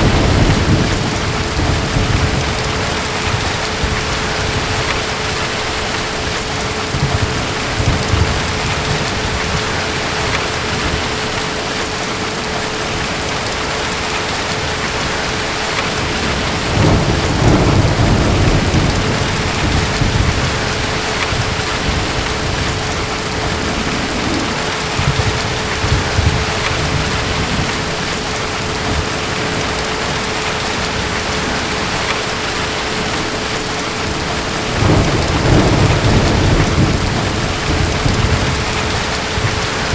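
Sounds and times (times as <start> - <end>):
distant thunder rumbling: 0.0 - 39.9
heavy rain: 0.0 - 39.9.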